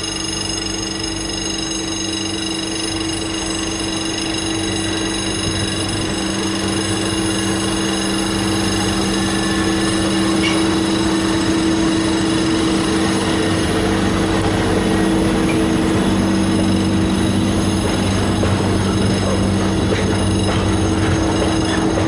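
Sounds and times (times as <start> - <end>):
diesel locomotive engine running: 0.0 - 22.0
freight wagons rolling by: 2.9 - 22.0.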